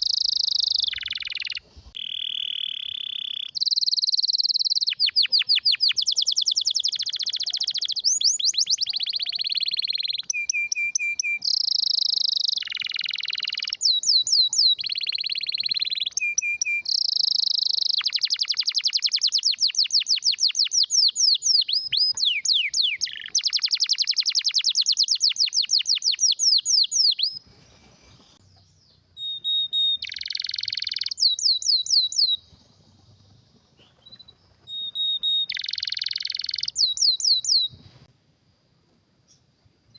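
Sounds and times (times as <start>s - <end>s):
canary singing trills: 0.0s - 38.1s.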